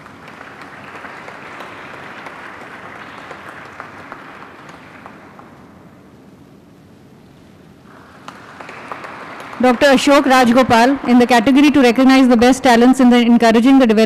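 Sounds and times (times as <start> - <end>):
audience applauding: 0.0 - 6.0, 7.9 - 13.2.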